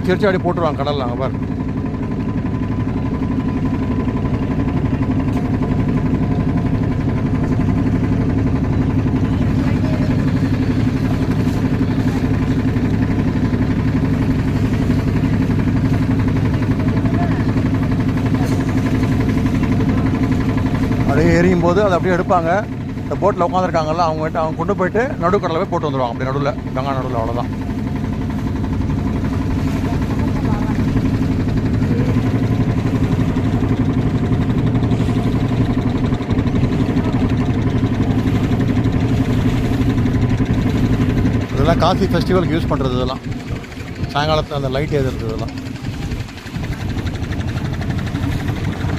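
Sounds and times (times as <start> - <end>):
motorboat engine droning: 0.0 - 48.9.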